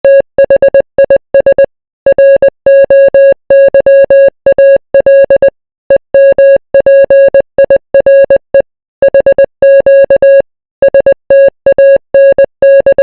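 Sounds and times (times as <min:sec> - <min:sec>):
morse code beeps: 0:00.1 - 0:13.0.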